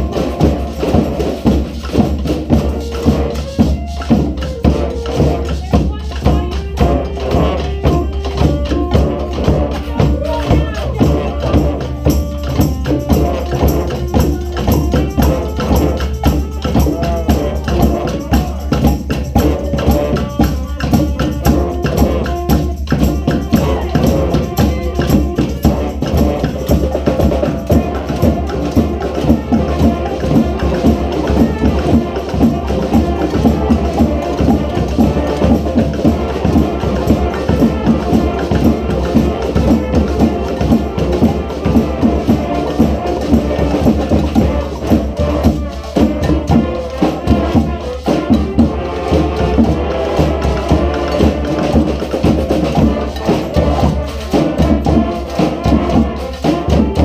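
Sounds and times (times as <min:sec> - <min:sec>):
brass band playing cumbia: 0:00.0 - 0:57.0
percussion beat: 0:00.0 - 0:57.0.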